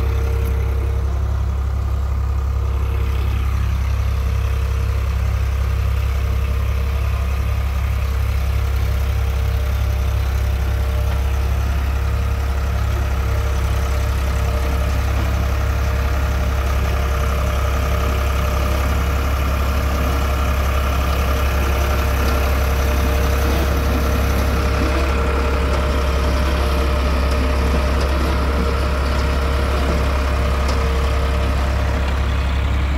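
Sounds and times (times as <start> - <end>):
tractor engine droning: 0.0 - 32.9.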